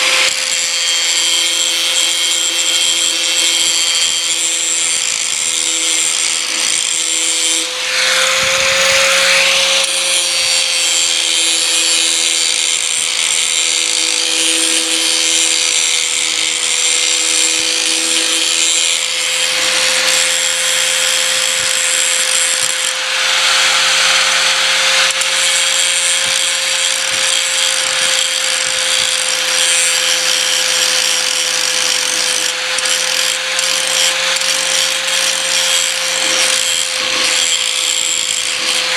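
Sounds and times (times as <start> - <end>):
grinder disc grinding steel: 0.0 - 38.9
power grinder whining: 0.0 - 38.9.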